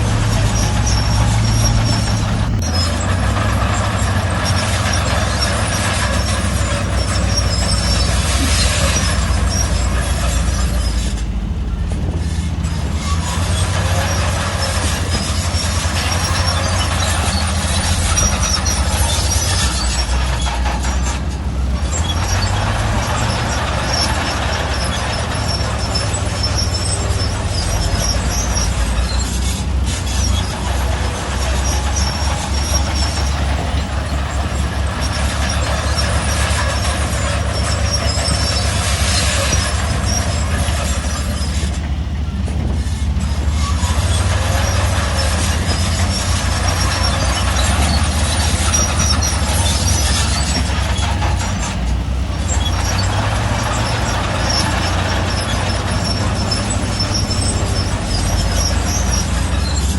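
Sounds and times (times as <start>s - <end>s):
diesel engine rumble: 0.0s - 59.9s
high metallic squeaks: 0.0s - 59.9s.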